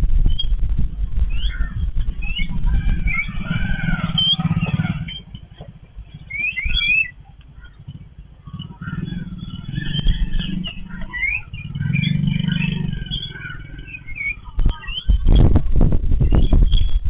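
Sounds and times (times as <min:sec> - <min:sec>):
loud low rumbling with knocks: 0:00.0 - 0:17.0
vehicle engine hum: 0:00.0 - 0:17.0
babblers chattering: 0:01.1 - 0:16.9.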